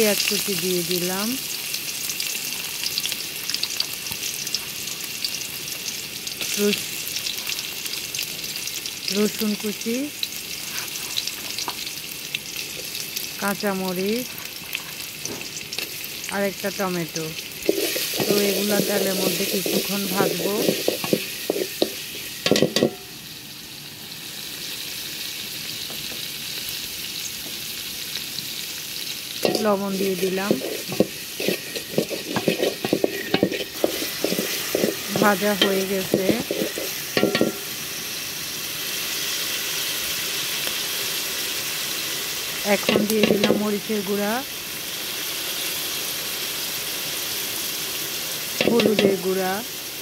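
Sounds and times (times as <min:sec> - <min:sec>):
oil crackling and popping: 0:00.0 - 0:23.1, 0:25.6 - 0:43.8
onions sizzling in hot oil: 0:00.0 - 0:50.0.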